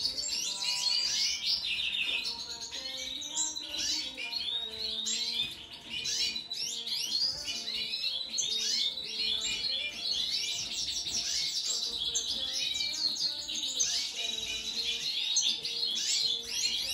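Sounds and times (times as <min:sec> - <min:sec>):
cage birds chirping and twittering: 0:00.0 - 0:16.9.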